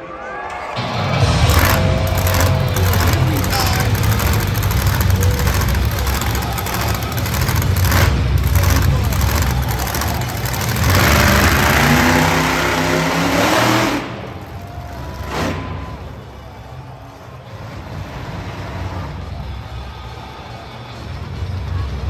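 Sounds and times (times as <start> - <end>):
truck engine revving: 0.8 - 19.7.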